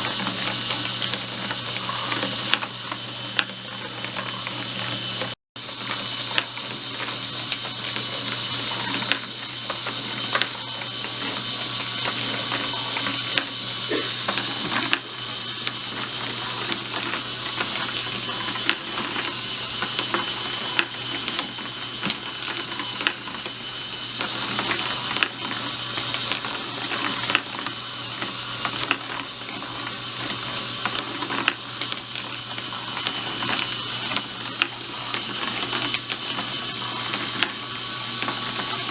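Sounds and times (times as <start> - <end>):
marbles clicking and clacking: 0.0 - 23.6, 24.2 - 38.9.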